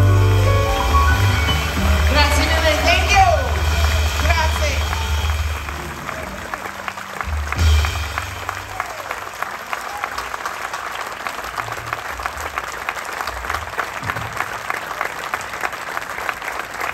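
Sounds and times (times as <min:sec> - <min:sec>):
audience applauding: 0:00.0 - 0:16.9.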